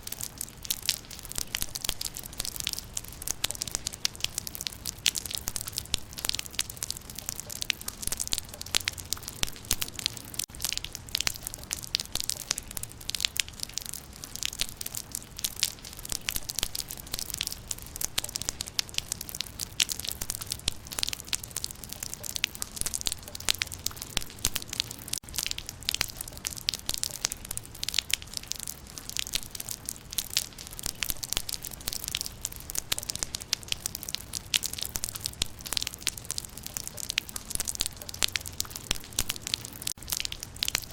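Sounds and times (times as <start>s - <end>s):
raindrops pattering on leaves: 0.0s - 40.9s.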